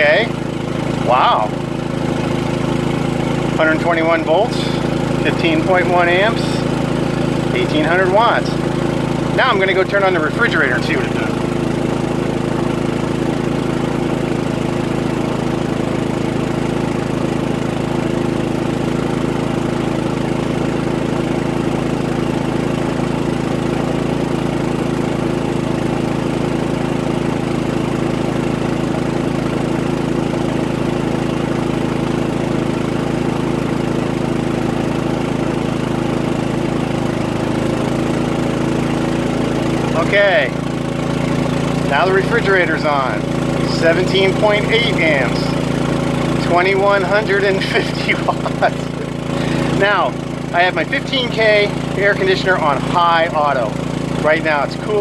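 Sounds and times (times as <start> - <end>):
generator running: 0.0 - 55.0.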